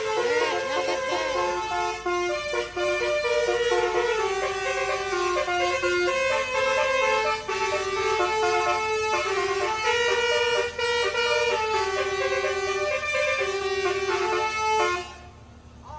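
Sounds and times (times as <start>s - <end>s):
multi-tone bus horn tune: 0.0s - 15.5s.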